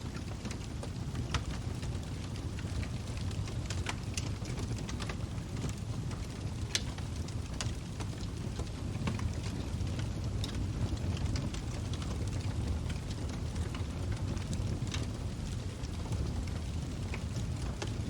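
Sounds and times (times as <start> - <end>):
log fire crackling and popping: 0.0 - 18.0.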